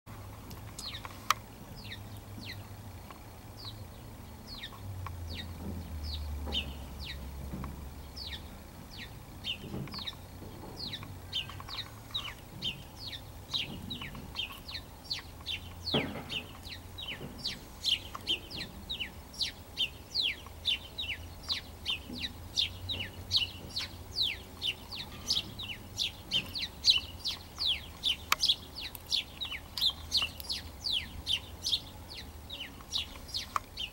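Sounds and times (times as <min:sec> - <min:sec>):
small bird chirping: 0:00.8 - 0:33.9.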